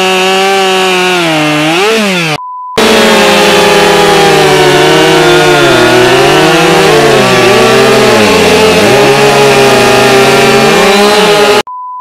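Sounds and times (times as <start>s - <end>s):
chainsaws cutting logs: 0.0s - 11.7s.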